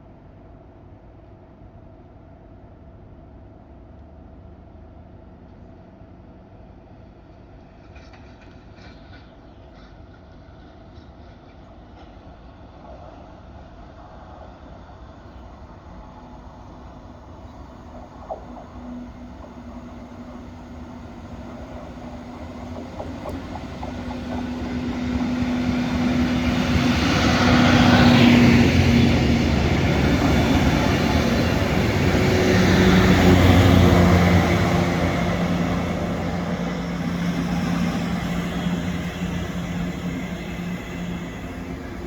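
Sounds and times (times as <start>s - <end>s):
train passing at speed: 0.0s - 42.0s.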